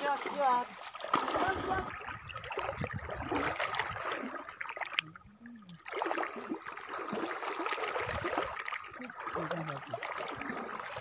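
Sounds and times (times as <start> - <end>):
seawater splashing as people wade: 0.0 - 11.0.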